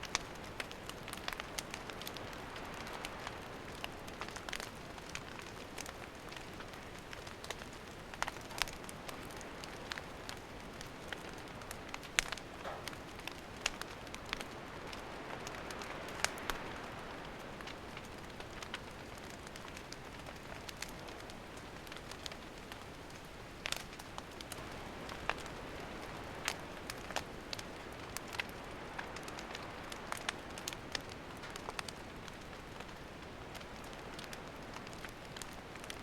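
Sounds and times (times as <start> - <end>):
campfire hiss: 0.0 - 36.0
fire crackles and pops: 0.0 - 36.0.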